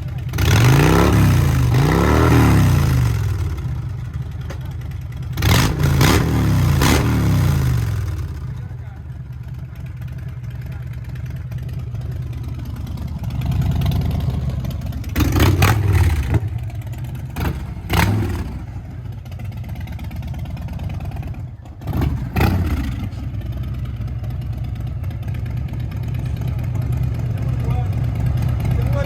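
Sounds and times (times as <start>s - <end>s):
motorcycle engine rumbling and revving: 0.0s - 29.0s.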